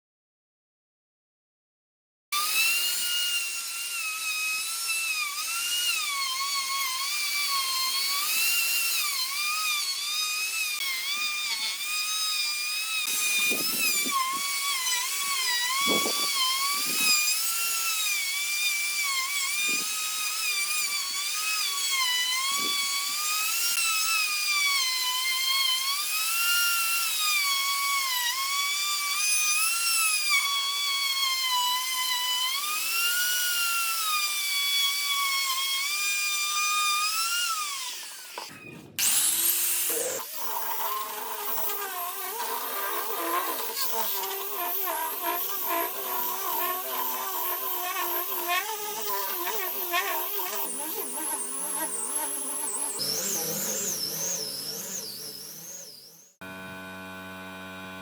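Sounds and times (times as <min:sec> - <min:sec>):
electric power tool whining: 0:02.4 - 0:58.0.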